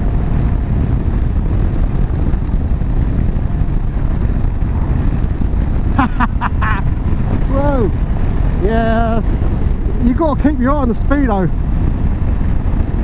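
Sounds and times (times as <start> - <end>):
motorcycle engine running: 0.0 - 13.0
wind roar on microphone: 0.0 - 13.0.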